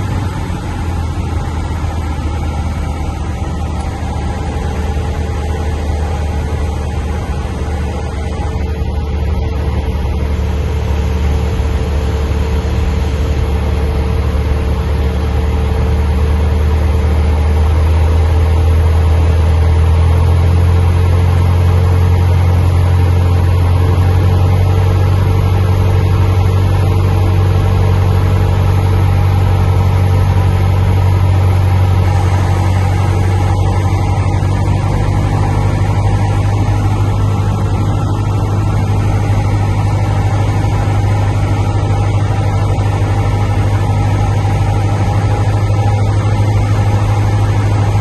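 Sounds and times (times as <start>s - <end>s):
plane engine droning in flight: 0.0s - 48.0s.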